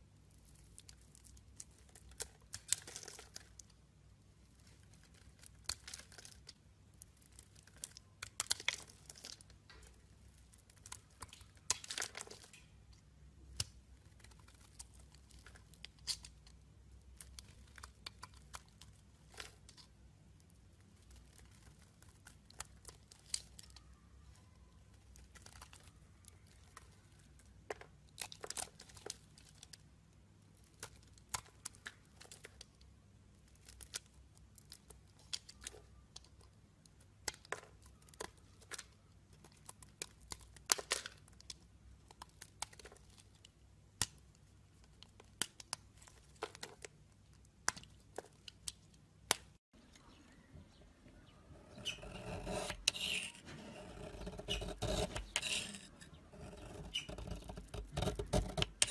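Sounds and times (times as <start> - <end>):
knife shaving soap crackles: 0.2 - 3.8, 4.5 - 49.7, 51.7 - 58.9.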